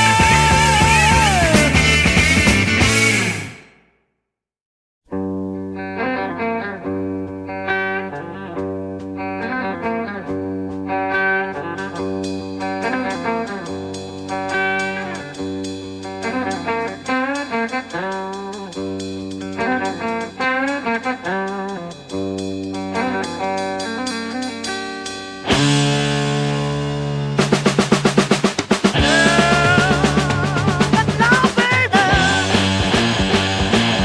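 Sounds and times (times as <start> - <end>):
bass guitar: 0.0 - 3.7, 5.2 - 34.0
electric guitar lead lines: 0.0 - 3.8, 5.2 - 34.0.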